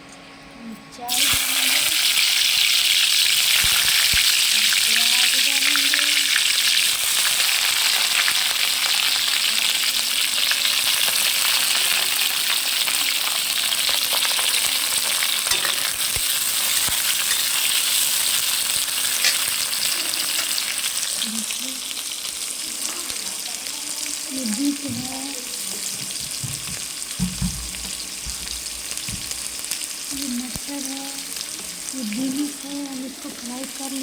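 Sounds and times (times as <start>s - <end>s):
food sizzling in hot oil: 1.1s - 34.0s.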